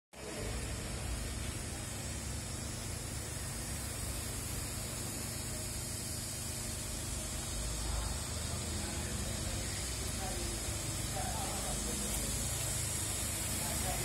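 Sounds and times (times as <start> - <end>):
faint street background: 0.1 - 14.0.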